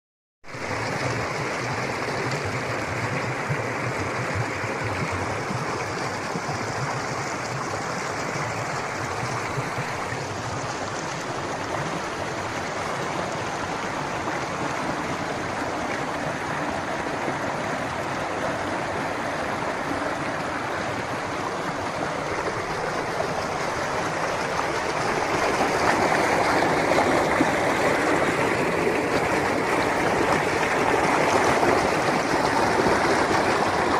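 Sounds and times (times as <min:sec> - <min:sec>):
water flowing over rocks: 0:00.5 - 0:33.9.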